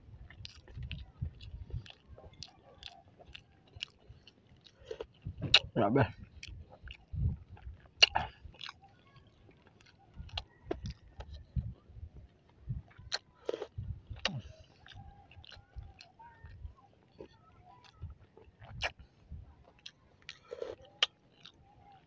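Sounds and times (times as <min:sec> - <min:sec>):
person chewing crunchy food: 0:00.2 - 0:22.0.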